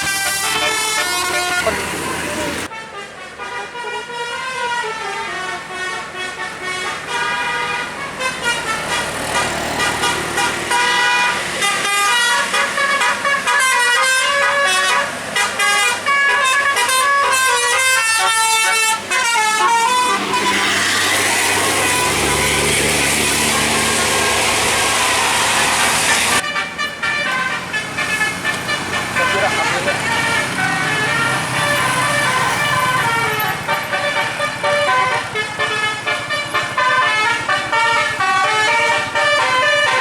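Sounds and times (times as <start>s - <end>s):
bus engine running: 0.0s - 2.7s, 5.1s - 40.0s
bus musical air horn melody: 0.0s - 40.0s.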